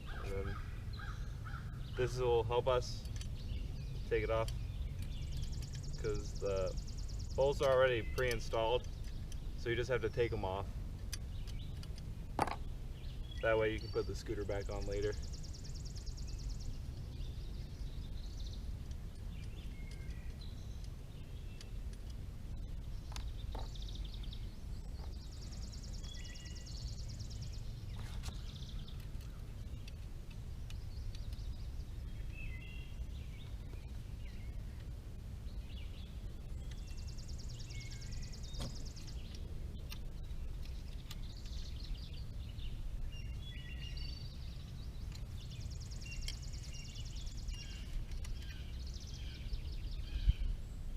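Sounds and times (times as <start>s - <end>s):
birds chirping: 0.0s - 50.9s
steady low rumble: 0.0s - 50.9s.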